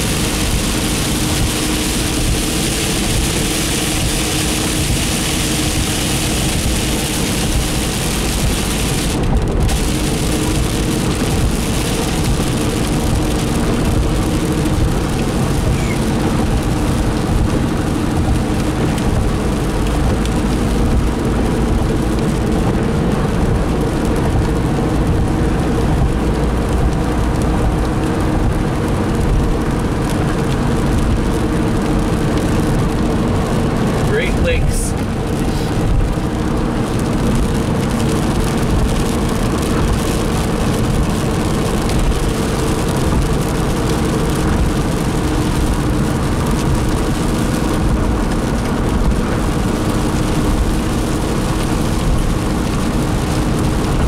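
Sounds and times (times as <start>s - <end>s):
tyre noise on wet road: 0.0s - 54.0s.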